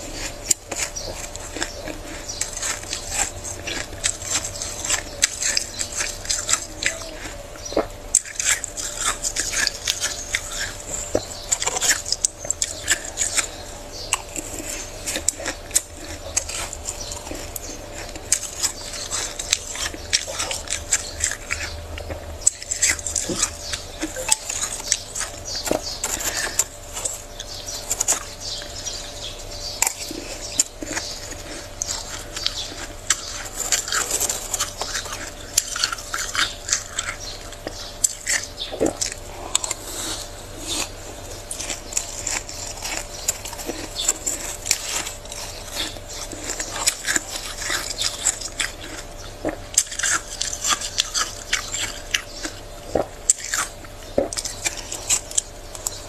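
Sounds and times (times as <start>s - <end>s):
faint steady hum: 0.0s - 56.0s
spoon scraping freezer frost: 0.0s - 56.0s.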